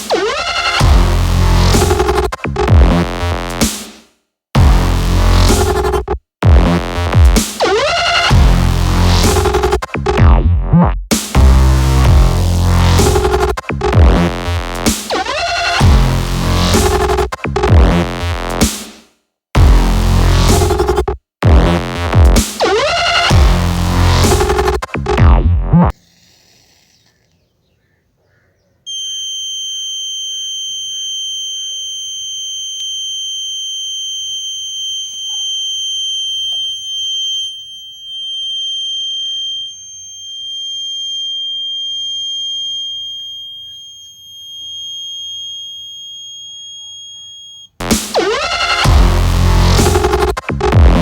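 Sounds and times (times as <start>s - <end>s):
alarm buzzer steady high tone: 0.1s - 3.6s, 4.6s - 10.2s, 11.4s - 18.6s, 19.6s - 24.8s, 28.9s - 51.0s.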